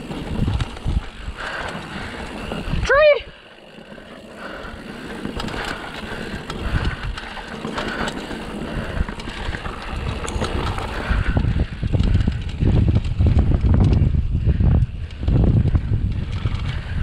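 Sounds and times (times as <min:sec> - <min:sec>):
wind rumble on microphone: 0:00.0 - 0:03.3, 0:04.4 - 0:17.0
mountain bike rattling and clicking: 0:00.0 - 0:17.0.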